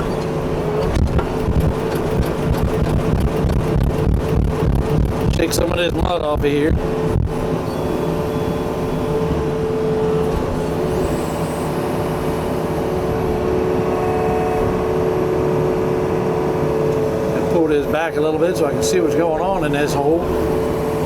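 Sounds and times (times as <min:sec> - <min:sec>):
digging machine engine drone: 0:00.0 - 0:21.0.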